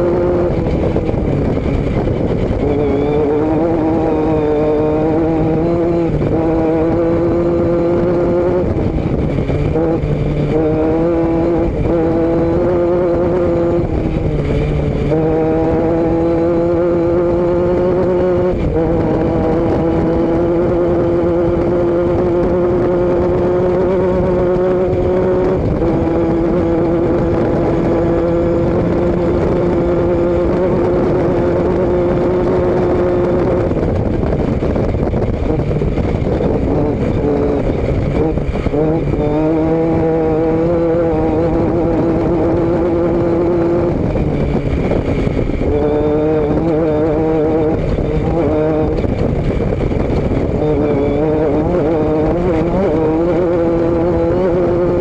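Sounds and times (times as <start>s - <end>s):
vehicle engine and exhaust running: 0.0s - 55.0s.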